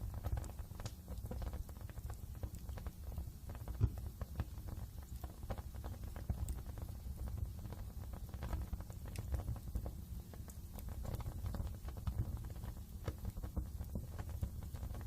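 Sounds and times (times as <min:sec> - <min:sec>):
burning logs popping and snapping: 0:00.0 - 0:15.0
low rumble of flames: 0:00.0 - 0:15.0.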